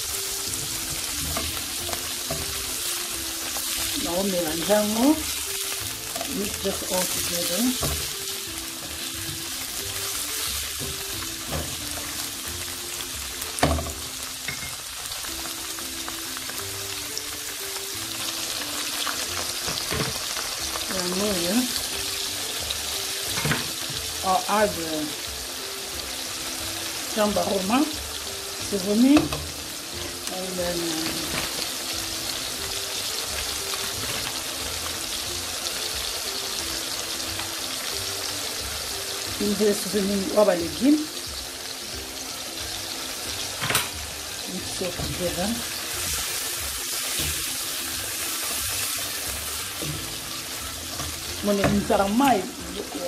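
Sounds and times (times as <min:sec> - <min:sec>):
prawns sizzling in a frying pan: 0:00.0 - 0:53.0.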